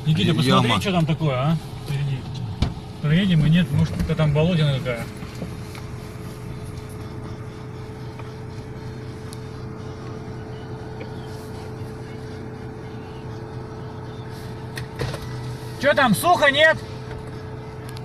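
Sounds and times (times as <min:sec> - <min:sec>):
car engine hum: 0:00.0 - 0:18.0
thin steady whine: 0:00.0 - 0:18.0.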